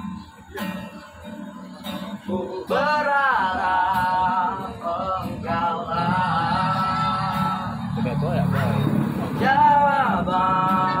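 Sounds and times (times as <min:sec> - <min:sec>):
acoustic guitar strumming: 0:00.0 - 0:11.0
man singing: 0:02.1 - 0:11.0.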